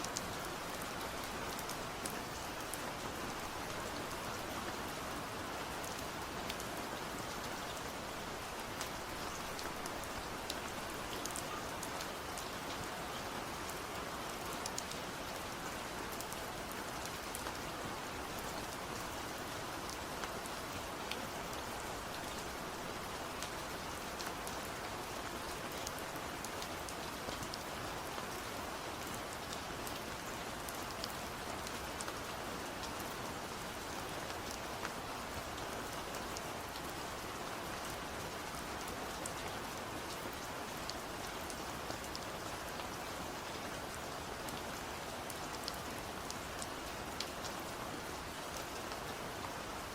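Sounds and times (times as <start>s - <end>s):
rain pattering on a surface: 0.0s - 49.9s.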